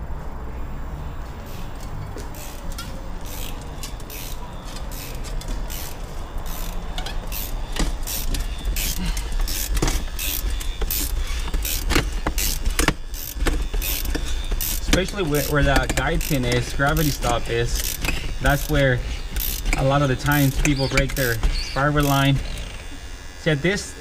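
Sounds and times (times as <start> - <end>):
hand tool clicking and creaking: 1.4 - 23.0.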